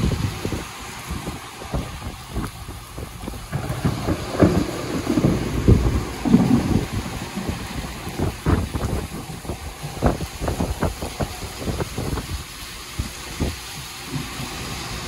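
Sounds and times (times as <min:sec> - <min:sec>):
heavy rain on pavement: 0:00.0 - 0:15.0.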